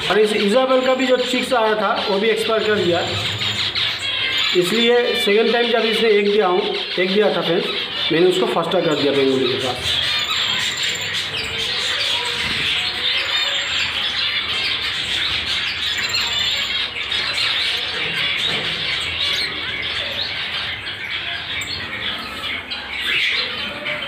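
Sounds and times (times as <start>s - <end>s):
birds chirping and squawking: 0.0s - 24.0s.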